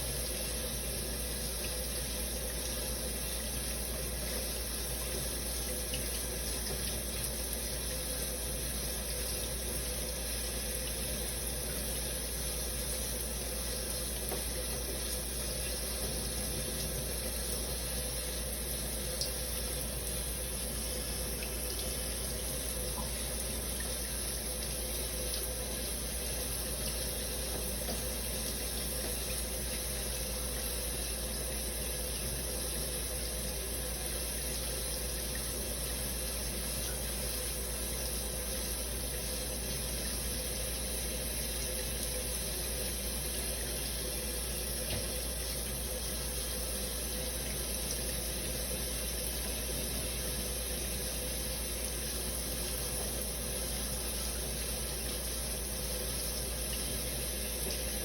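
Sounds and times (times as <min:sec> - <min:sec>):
shower running: 0:00.0 - 0:58.0.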